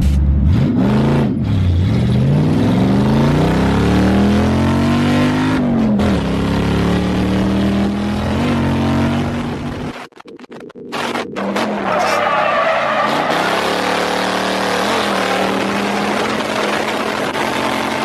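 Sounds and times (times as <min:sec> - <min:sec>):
car engine revving hard: 0:00.5 - 0:09.9, 0:12.8 - 0:18.0.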